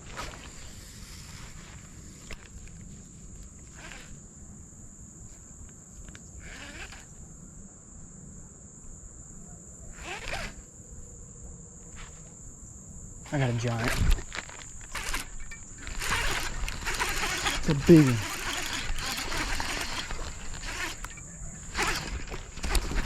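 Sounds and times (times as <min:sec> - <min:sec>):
high-pitched insect drone: 0:03.1 - 0:08.0, 0:08.7 - 0:23.0.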